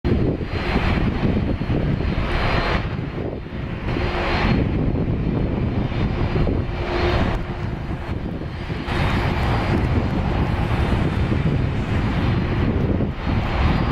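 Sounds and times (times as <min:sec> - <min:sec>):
deep rumble: 0:00.0 - 0:13.9
jet engines roaring: 0:00.1 - 0:13.9.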